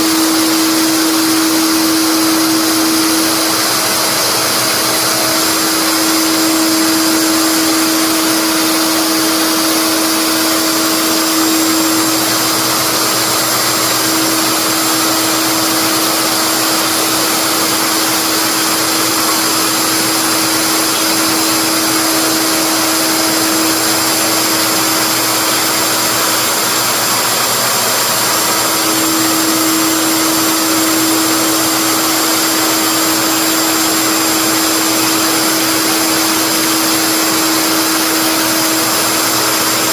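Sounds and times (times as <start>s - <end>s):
wood router motor whine: 0.0s - 39.9s.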